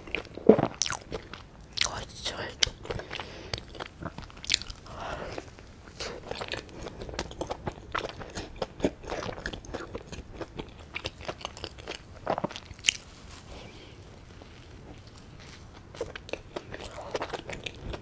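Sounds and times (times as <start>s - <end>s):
chewing crunchy bread: 0.0s - 18.0s.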